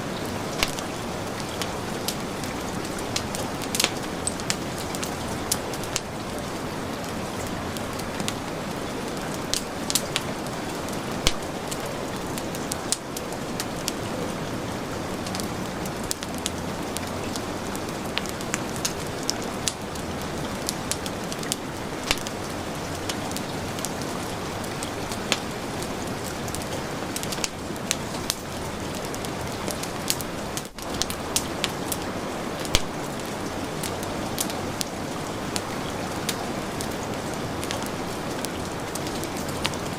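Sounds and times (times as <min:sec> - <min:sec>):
heavy rain hissing: 0:00.0 - 0:39.9
wood fire crackling: 0:00.0 - 0:39.9.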